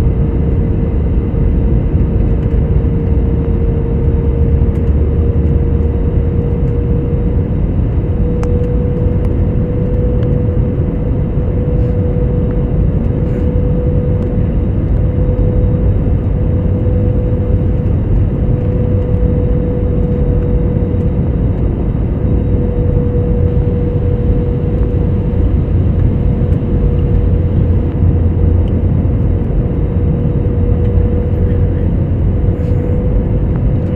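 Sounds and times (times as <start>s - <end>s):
airliner cabin engine roar: 0.0s - 33.9s
engine whine: 0.0s - 33.9s.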